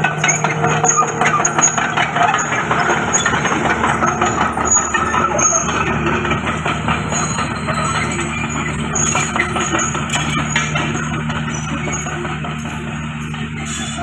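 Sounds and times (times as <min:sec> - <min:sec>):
bulldozer diesel engine running: 0:00.0 - 0:14.0
irregular clatter: 0:00.0 - 0:14.0.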